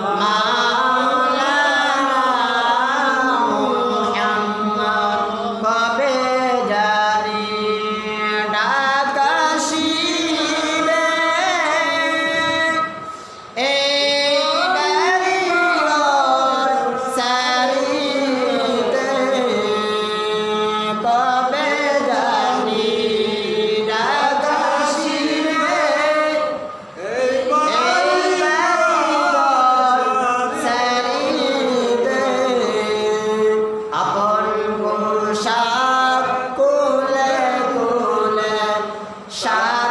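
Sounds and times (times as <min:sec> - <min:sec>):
man chanting: 0:00.0 - 0:39.9.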